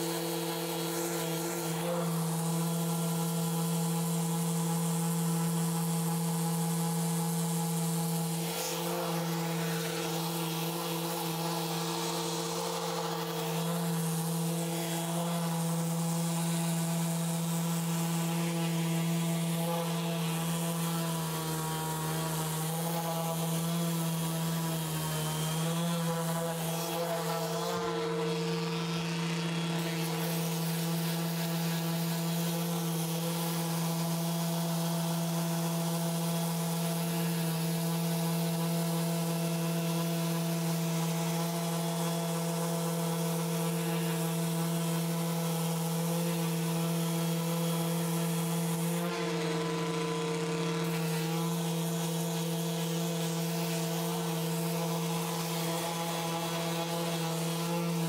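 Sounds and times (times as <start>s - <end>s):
orbital sander sanding wood: 0.0s - 58.0s.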